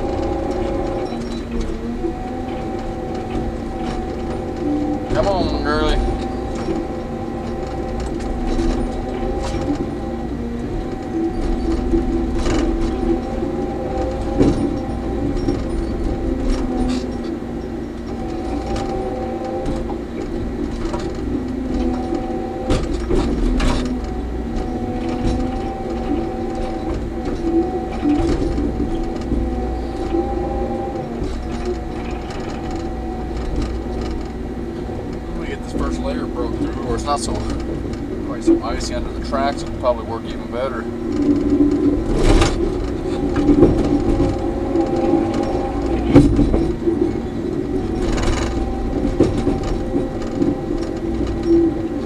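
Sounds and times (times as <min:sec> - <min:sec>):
dozer diesel engine under load: 0:00.0 - 0:52.0
track clatter: 0:00.0 - 0:52.0.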